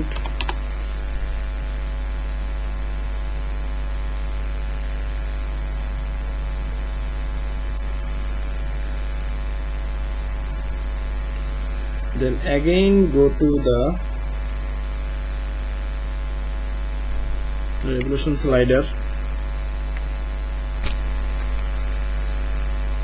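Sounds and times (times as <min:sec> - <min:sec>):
electrical mains hum: 0:00.0 - 0:23.0
static hiss: 0:00.0 - 0:23.0.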